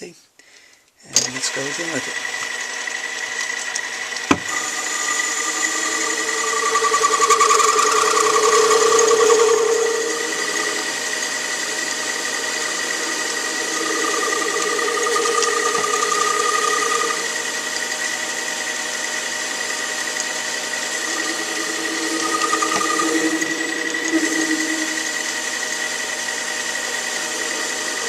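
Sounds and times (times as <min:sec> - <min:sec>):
metal lathe whining: 0:01.4 - 0:28.0
lower tone: 0:04.4 - 0:28.0.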